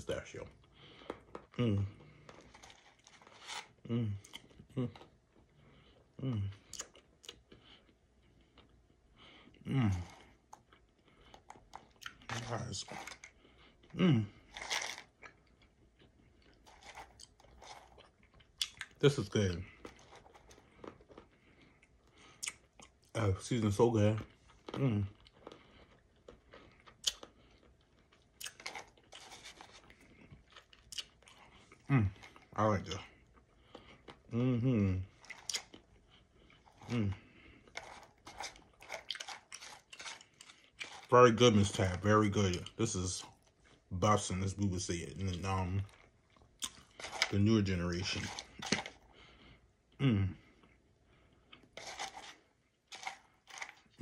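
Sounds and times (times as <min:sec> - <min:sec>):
person chewing crunchy nuts: 0:00.0 - 0:23.2, 0:24.1 - 0:54.0.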